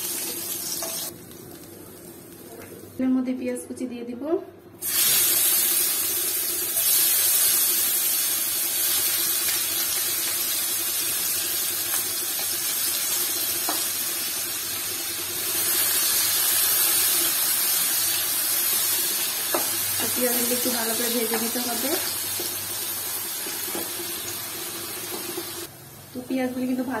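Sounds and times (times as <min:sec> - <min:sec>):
onions sizzling in a frying pan: 0:00.0 - 0:02.5, 0:04.8 - 0:27.0.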